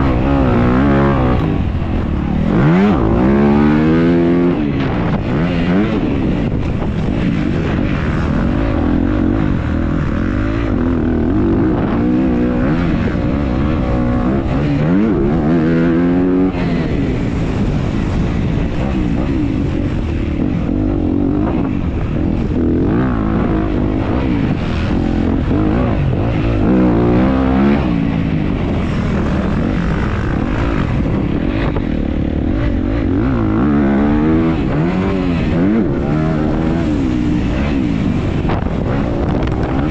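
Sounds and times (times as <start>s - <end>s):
dirt bike engine revving: 0.0s - 39.9s
wind noise: 0.0s - 39.9s.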